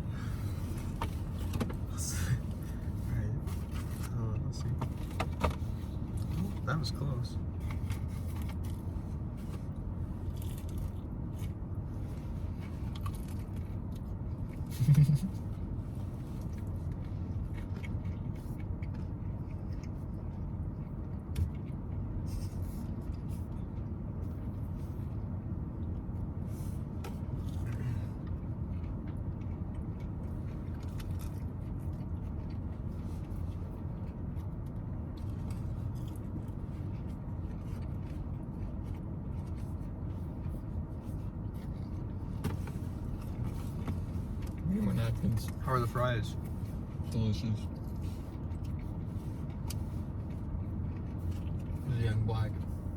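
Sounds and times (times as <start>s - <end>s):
faint chewing and crunching: 0.0s - 52.9s
low background rumble: 0.0s - 52.9s.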